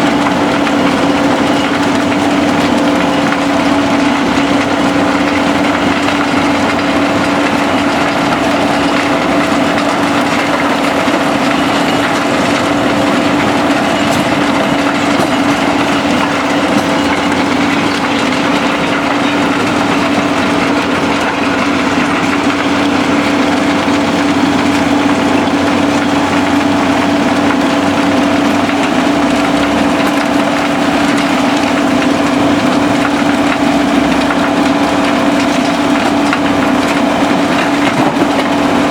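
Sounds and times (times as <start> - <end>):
impact crusher crushing concrete: 0.0 - 38.9.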